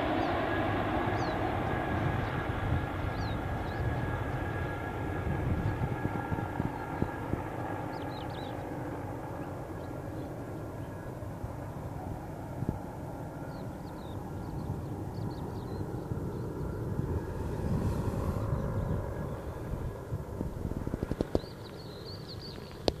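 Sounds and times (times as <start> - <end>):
helicopter rotor and engine rumble: 0.0 - 23.0.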